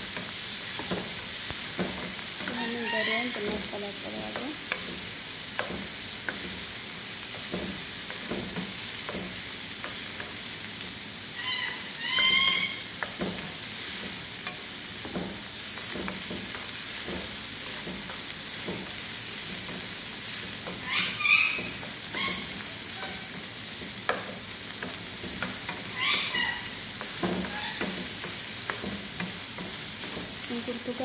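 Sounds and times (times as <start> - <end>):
wooden spoon scraping a pan: 0.0 - 10.6, 11.4 - 31.0
food sizzling in a frying pan: 0.0 - 31.0.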